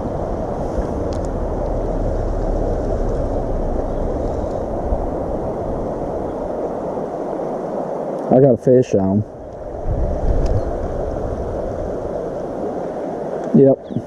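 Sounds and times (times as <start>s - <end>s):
wind buffeting microphone: 0.0s - 8.2s, 9.2s - 14.0s
flowing river water: 0.0s - 14.0s.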